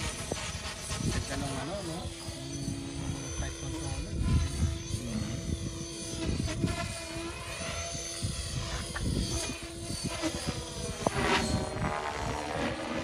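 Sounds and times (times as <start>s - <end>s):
rc helicopter motor whine: 0.0s - 13.0s.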